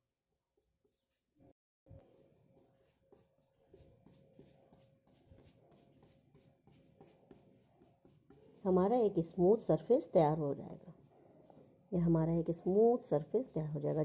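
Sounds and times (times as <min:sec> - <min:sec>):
paintbrush dabbing on wood: 0:02.0 - 0:14.0.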